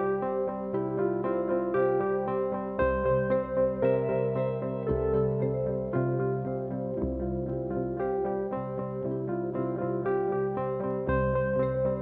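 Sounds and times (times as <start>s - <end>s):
gentle keyboard tune: 0.0s - 12.0s.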